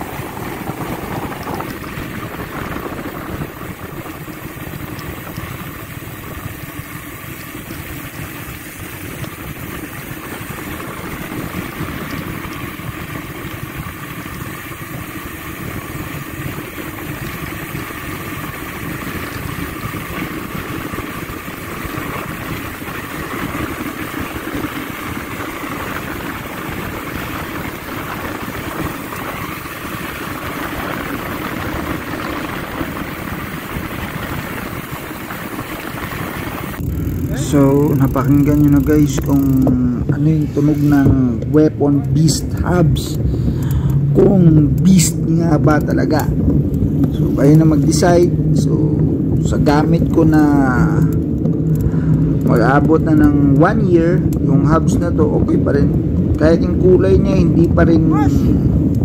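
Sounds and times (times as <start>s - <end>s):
bicycle hub ratchet buzzing: 0.0s - 55.2s.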